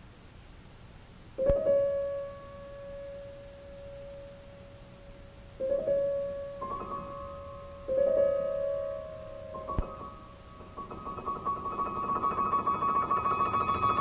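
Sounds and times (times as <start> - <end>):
slow solo piano: 1.4 - 14.0.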